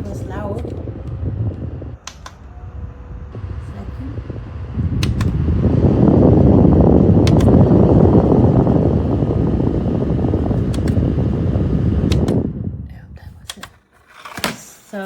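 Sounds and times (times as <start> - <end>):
neck fan rushing airflow: 0.0 - 13.7.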